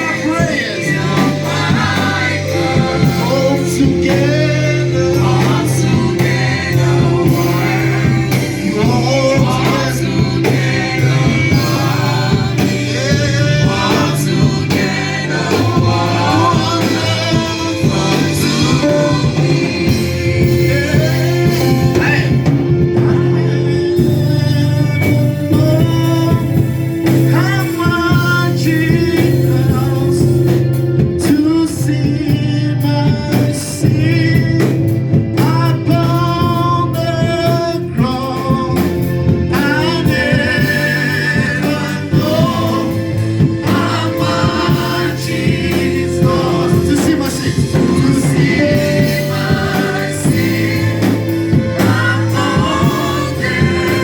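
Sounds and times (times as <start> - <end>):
group of voices singing gospel: 0.0 - 54.0
held bass notes: 0.0 - 54.0
instrumental accompaniment: 0.0 - 54.0.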